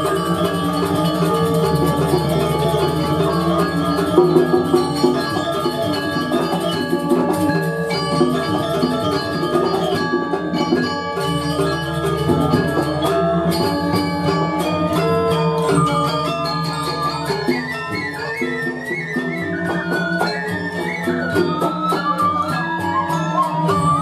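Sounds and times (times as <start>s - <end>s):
metallophones playing quick patterns: 0.0s - 22.2s.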